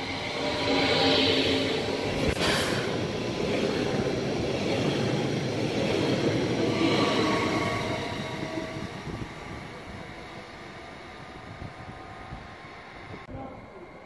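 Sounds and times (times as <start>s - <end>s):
train wheel and running noise: 0.0s - 14.0s.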